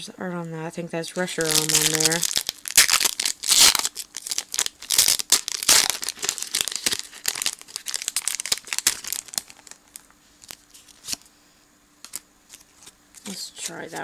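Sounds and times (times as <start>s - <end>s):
foil wrapper crinkling: 1.2s - 11.3s, 12.0s - 14.0s.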